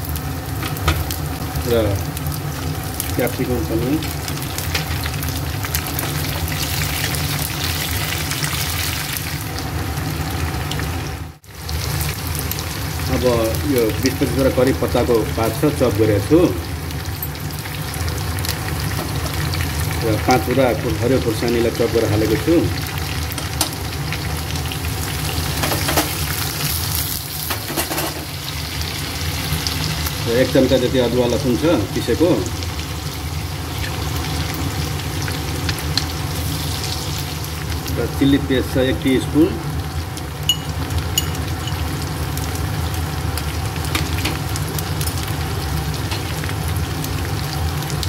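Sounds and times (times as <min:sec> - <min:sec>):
food sizzling in frying pan: 0:00.0 - 0:48.0.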